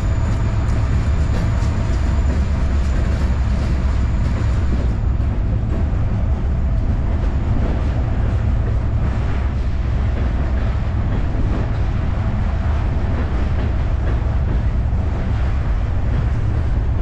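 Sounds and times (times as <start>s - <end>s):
freight train rumbling over bridge: 0.0s - 17.0s.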